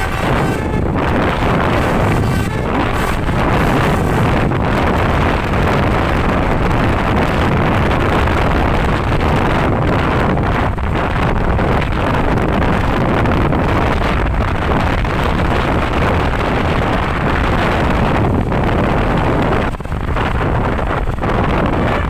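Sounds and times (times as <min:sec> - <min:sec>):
road and engine noise: 0:00.0 - 0:22.0
wind buffeting microphone: 0:00.0 - 0:22.0.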